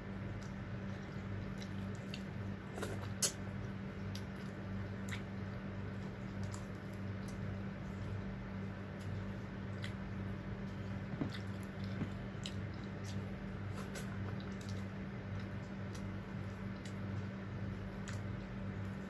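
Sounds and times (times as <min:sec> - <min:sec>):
low electrical hum: 0:00.0 - 0:19.0
wet chewing: 0:00.2 - 0:19.0.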